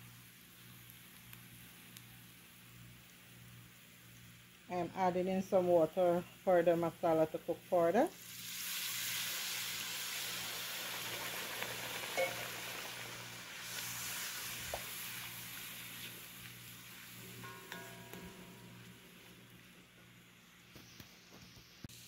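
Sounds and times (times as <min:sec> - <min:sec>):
masala sizzling in hot oil: 0:00.0 - 0:22.0.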